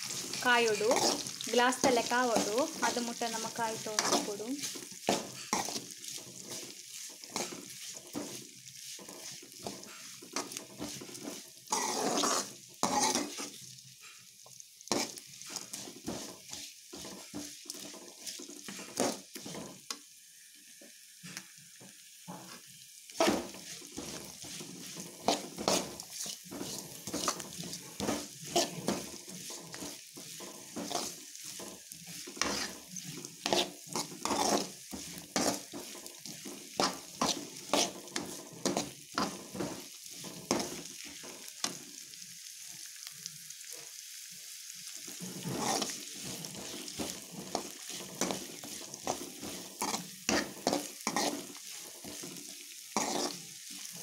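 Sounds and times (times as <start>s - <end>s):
utensil scraping and knocking pan: 0.0s - 13.6s, 14.9s - 19.8s, 23.2s - 41.8s, 45.2s - 54.0s
food sizzling in hot oil: 0.0s - 54.0s.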